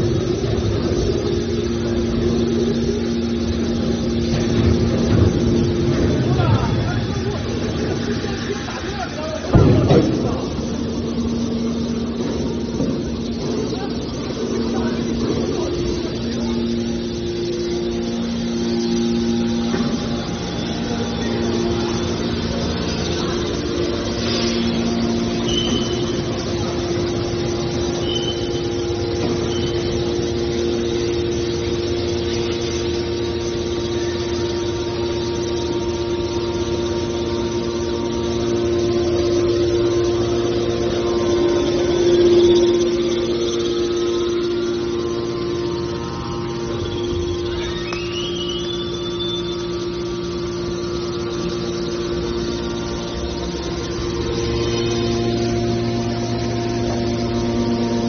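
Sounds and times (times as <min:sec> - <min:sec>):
heavy machinery humming: 0:00.0 - 0:58.0.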